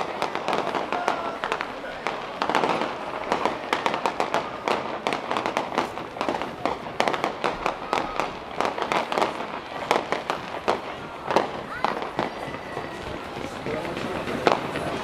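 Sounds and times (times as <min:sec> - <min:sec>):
fireworks crackling pops: 0:00.0 - 0:15.0.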